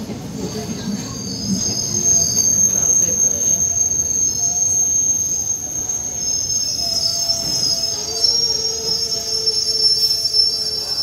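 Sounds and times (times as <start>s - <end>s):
rumble of moving coaches: 0.0s - 11.0s
train wheels squealing on rails: 0.0s - 11.0s.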